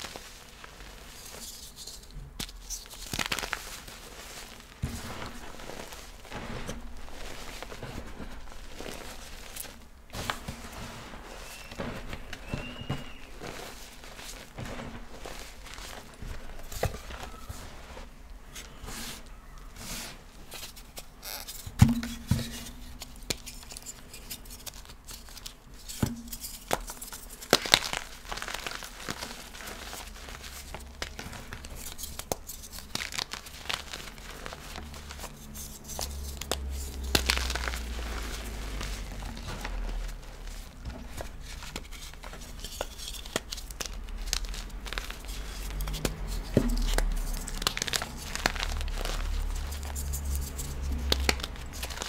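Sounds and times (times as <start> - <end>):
chalk blocks crunching: 0.0 - 52.0.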